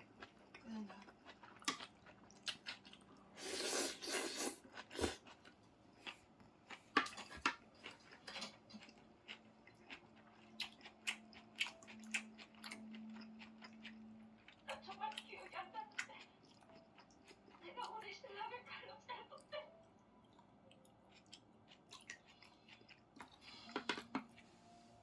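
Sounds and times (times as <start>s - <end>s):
chewing noodles: 0.0s - 18.0s, 19.8s - 24.5s.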